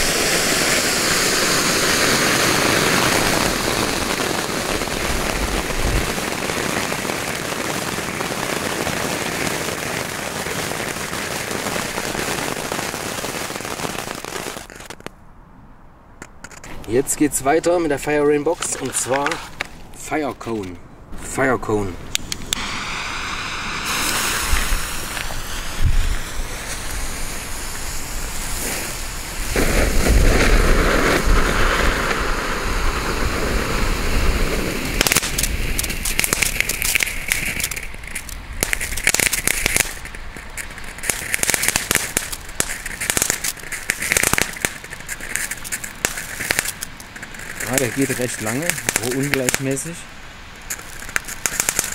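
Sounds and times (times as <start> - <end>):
firework hissing: 0.0 - 15.1, 22.1 - 51.9
firework crackles: 0.0 - 15.2, 16.2 - 20.1, 21.2 - 51.9.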